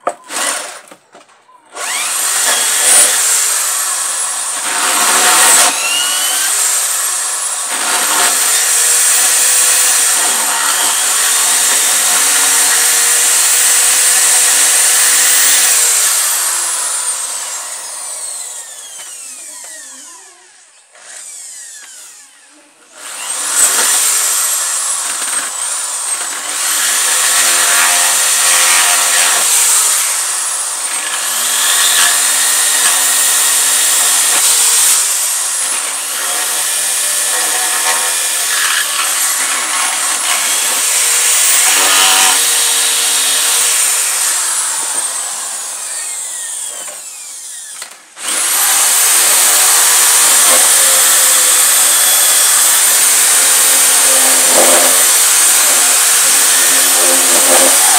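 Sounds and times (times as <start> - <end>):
electric drill boring into wood: 0.0 - 1.0, 1.7 - 57.9.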